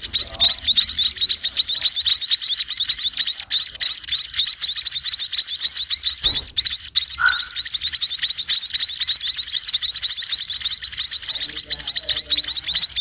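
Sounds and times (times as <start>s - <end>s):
bird chicks begging chirps: 0.0s - 13.0s.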